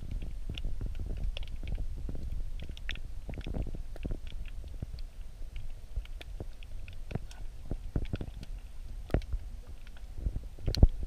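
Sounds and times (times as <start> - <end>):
underwater clicks and knocks: 0.0 - 11.0
underwater current rumble: 0.0 - 11.0.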